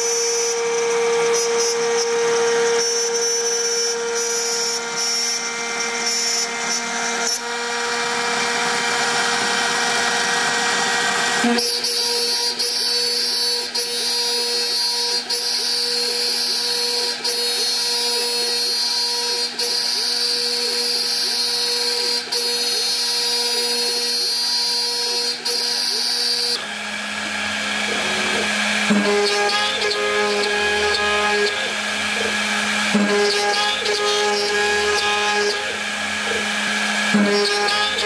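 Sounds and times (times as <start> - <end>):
harsh metal cutting noise: 0.0 - 38.0
milling spindle whine: 0.0 - 38.0.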